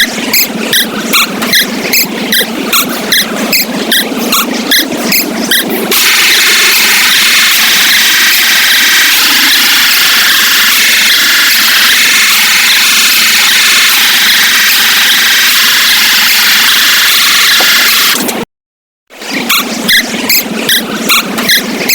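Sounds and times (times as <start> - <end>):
distorted high-pitched alarm blare: 0.0 - 18.3, 19.5 - 21.9.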